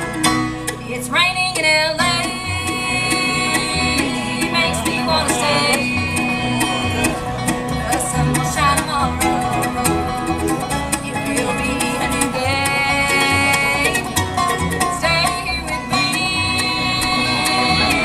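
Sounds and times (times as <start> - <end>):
banjo picking: 0.0 - 18.0
guitar and bass: 0.0 - 18.0
long held melody notes: 0.0 - 18.0.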